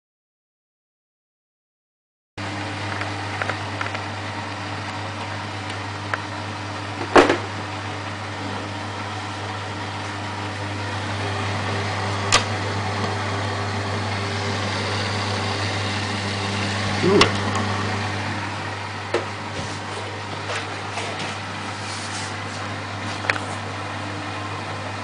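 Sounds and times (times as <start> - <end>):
washing machine motor hum: 2.4 - 25.0.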